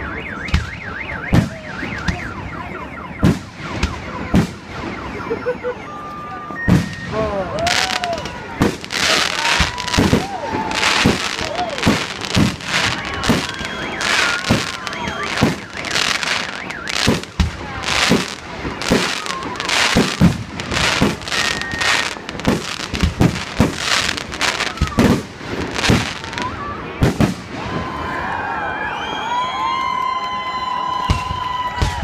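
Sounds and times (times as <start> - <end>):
fireworks bangs: 0.0 - 28.2, 31.0 - 32.0
fireworks crackling: 0.4 - 28.1.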